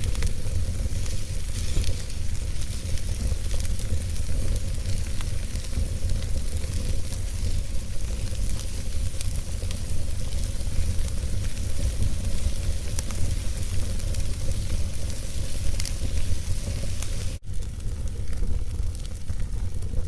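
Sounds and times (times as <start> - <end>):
fire pops: 0.0 - 20.0
wood fire crackling: 0.0 - 20.0.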